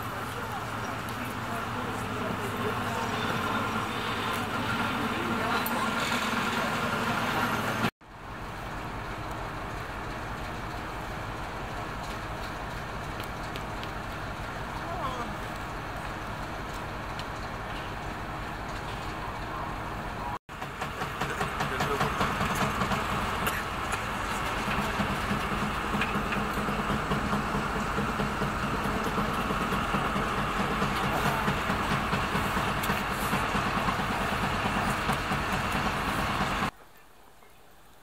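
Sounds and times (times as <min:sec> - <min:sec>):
diesel locomotive idling: 0:00.0 - 0:36.8
train rumble with fast flutter: 0:00.0 - 0:36.8.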